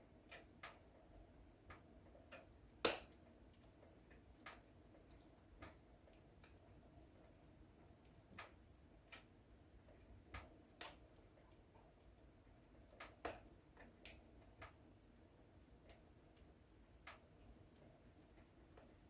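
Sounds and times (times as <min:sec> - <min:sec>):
wood fire crackling: 0:01.6 - 0:19.0.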